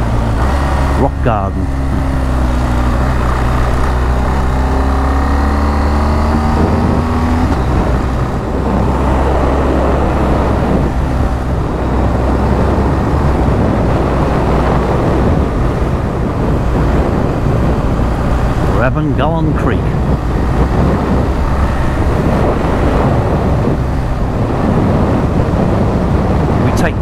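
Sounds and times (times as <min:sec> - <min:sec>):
motorcycle engine accelerating: 0:00.0 - 0:27.0
wind noise: 0:00.0 - 0:27.0.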